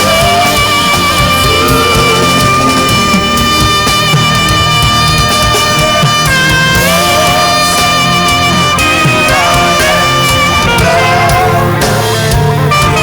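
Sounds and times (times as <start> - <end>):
band backing: 0.0 - 13.0
saxophone long held notes: 0.0 - 13.0.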